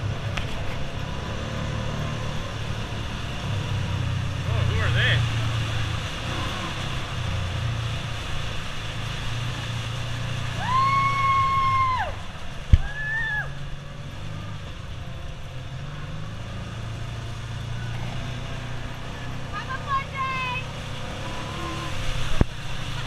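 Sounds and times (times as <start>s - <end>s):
utility vehicle engine running: 0.0s - 23.0s.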